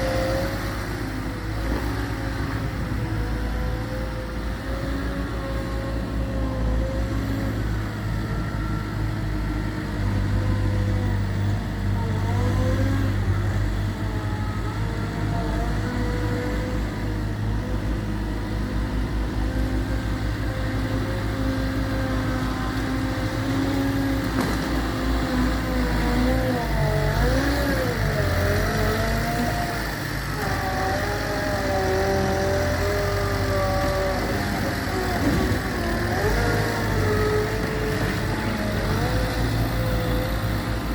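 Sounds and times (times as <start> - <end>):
diesel engine working: 0.0 - 40.9.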